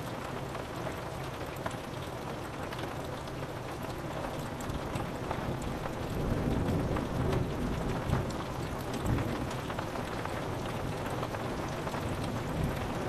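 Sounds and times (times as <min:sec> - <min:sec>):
rain ticking on window glass: 0:00.0 - 0:13.0.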